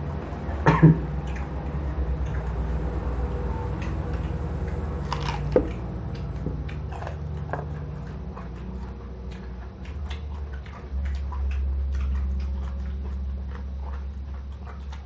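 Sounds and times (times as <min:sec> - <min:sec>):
crunching and chewing fruit: 0:00.0 - 0:15.0
steady low hum: 0:00.0 - 0:15.0.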